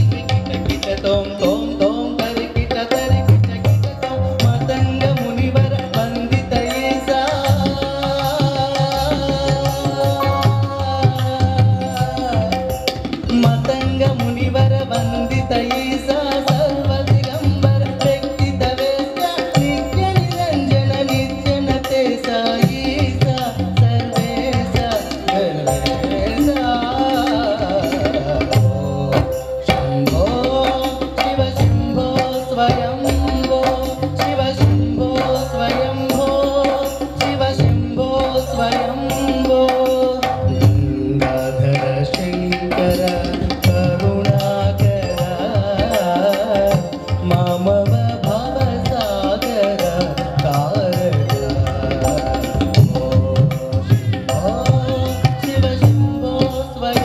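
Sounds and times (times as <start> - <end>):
man singing devotional song: 0.0 - 57.0
tabla strokes: 0.0 - 57.0.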